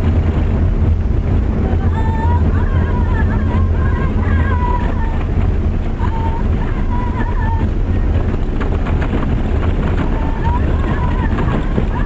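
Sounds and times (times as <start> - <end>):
engine and tyres rumbling: 0.0 - 12.0
wind noise: 0.0 - 12.0.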